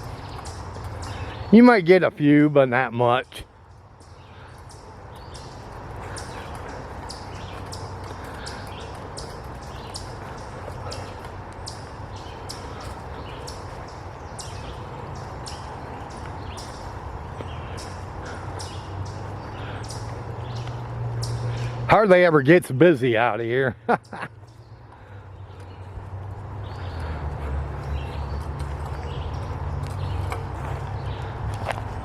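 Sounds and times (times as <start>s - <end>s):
footsteps crunching on dirt: 0.0s - 3.2s, 4.0s - 32.0s.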